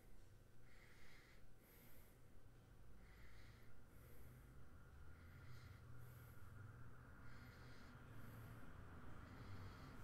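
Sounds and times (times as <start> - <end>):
room hum: 0.0 - 10.0
soft breath close to microphone: 0.0 - 10.0.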